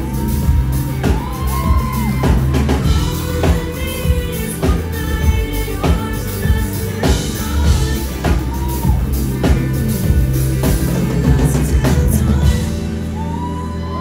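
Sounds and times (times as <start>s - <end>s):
drum kit beat: 0.0s - 13.4s
live band music: 0.0s - 14.0s.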